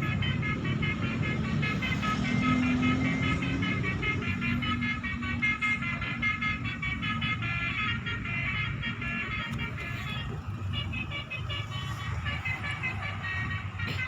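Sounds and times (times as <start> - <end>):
musical bus horn melody: 0.0 - 14.0.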